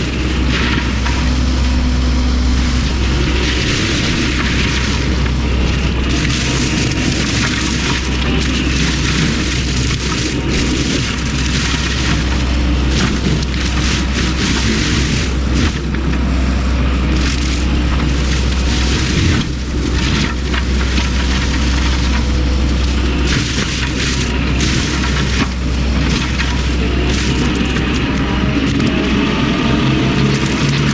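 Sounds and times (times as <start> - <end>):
excavator engine rumble: 0.0 - 30.9
wood crackling and snapping: 3.0 - 16.2, 17.1 - 29.2, 30.1 - 30.9.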